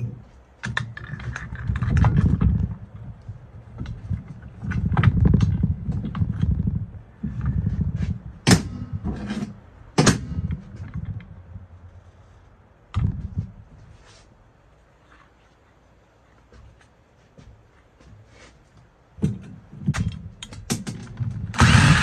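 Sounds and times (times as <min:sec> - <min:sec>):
low rubbing and handling rumbles: 0:00.0 - 0:20.4.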